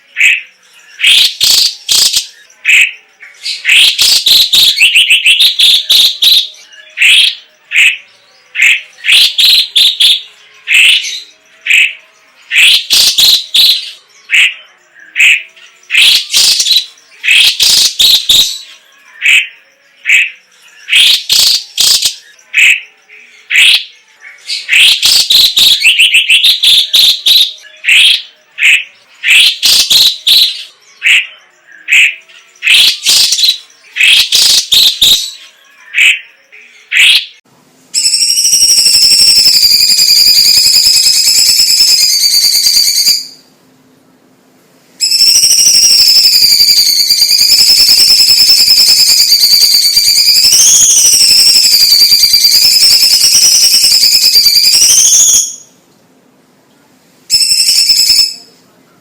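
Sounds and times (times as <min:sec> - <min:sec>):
bird chirping and whistling: 0:00.0 - 0:37.4, 0:38.0 - 0:43.5, 0:45.0 - 0:55.8, 0:57.3 - 0:58.5.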